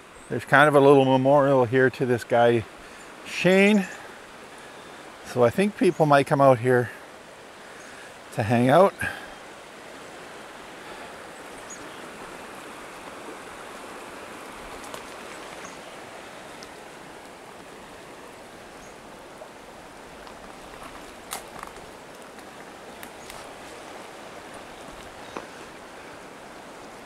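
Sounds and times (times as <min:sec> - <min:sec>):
river rushing over stones: 0:00.0 - 0:27.0.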